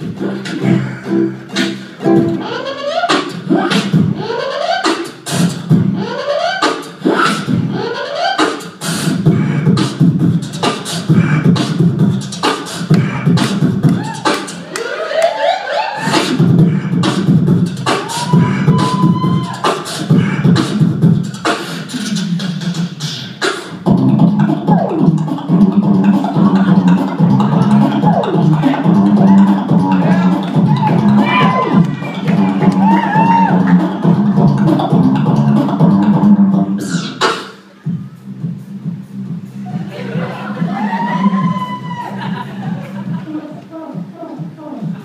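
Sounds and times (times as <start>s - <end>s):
beatboxing into microphone: 0.0s - 45.0s.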